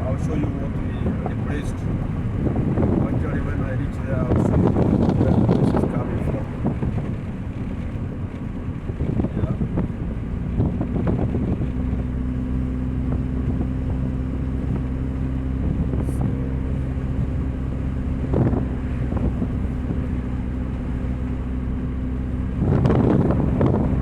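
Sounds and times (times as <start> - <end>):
car engine drone: 0.0 - 24.0
road noise: 0.0 - 24.0.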